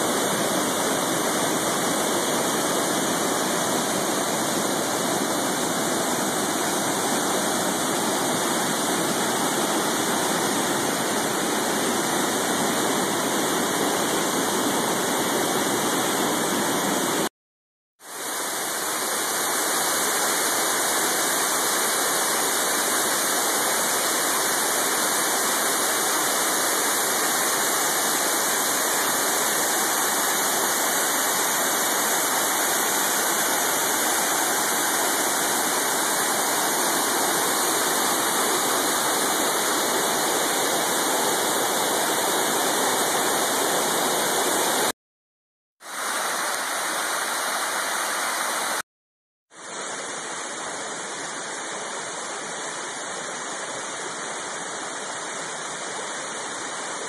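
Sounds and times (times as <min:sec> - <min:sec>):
waterfall rushing: 0:00.0 - 0:17.3, 0:18.1 - 0:45.0, 0:45.8 - 0:48.8.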